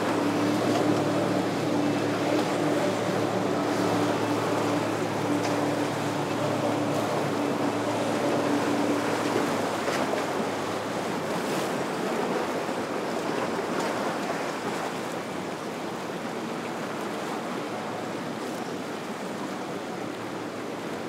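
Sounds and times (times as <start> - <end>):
boat engine hum: 0.0 - 21.0
waves breaking: 0.0 - 21.0.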